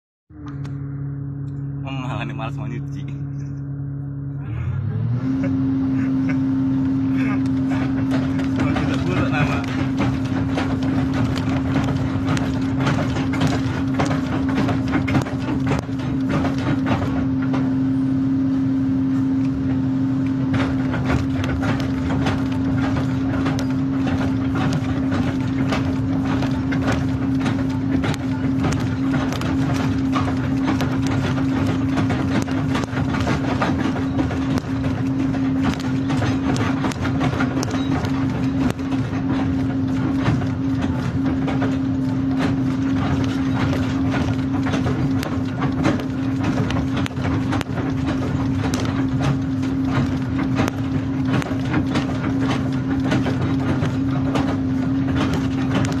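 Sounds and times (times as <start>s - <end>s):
excavator diesel engine humming: 0.3s - 56.0s
clatter of knocks and rattles: 5.4s - 56.0s.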